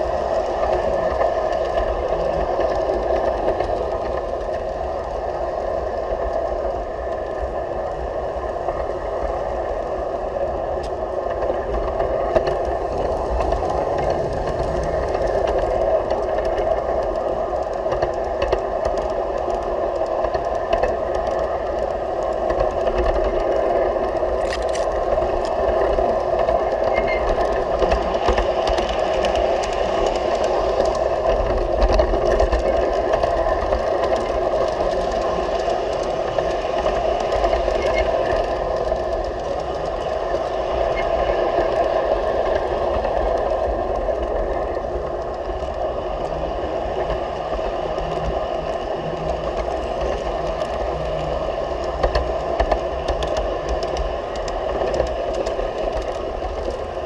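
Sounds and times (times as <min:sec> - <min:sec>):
wheels clicking on track: 0:00.0 - 0:57.0.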